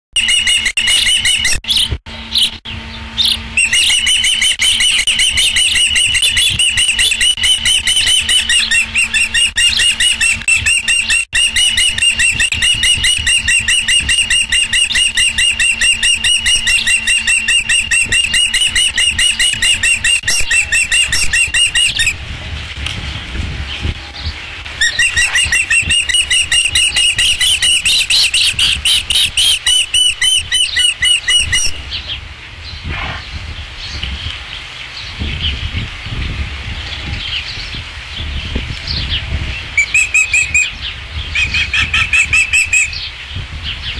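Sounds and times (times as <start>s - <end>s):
ospreys chirping: 0.2s - 22.2s, 23.8s - 32.8s, 37.4s - 43.9s.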